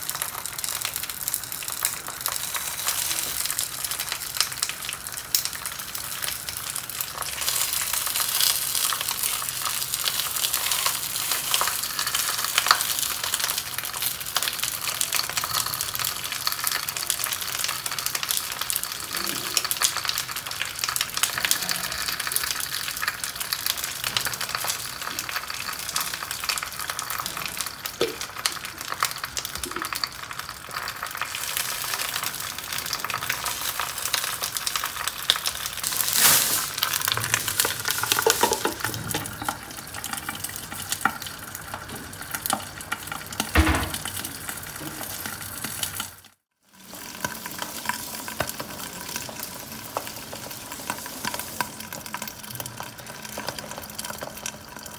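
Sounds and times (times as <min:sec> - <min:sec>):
fish frying in paste: 0:00.0 - 0:54.9.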